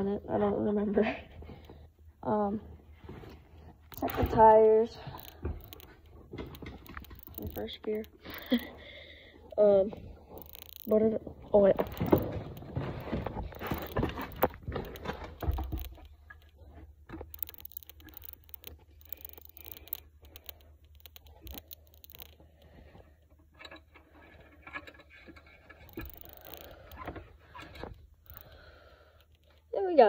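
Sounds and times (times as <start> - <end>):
hands and metal parts scraping: 2.9 - 8.9, 9.5 - 30.0.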